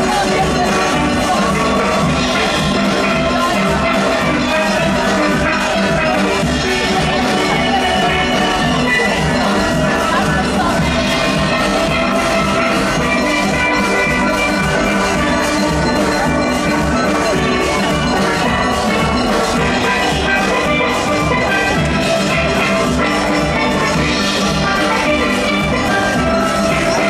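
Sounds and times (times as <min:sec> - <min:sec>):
drum kit and percussion rhythm: 0:00.0 - 0:27.0
steelpan orchestra: 0:00.0 - 0:27.0.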